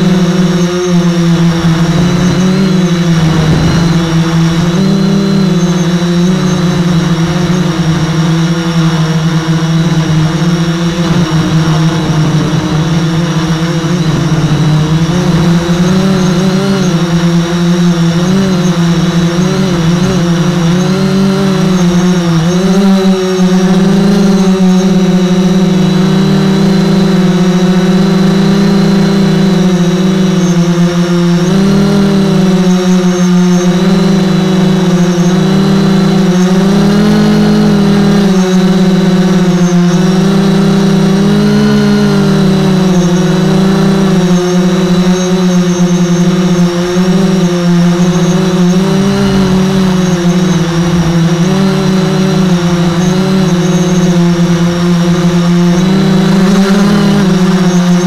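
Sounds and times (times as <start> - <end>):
drone propellers humming: 0.0 - 58.0.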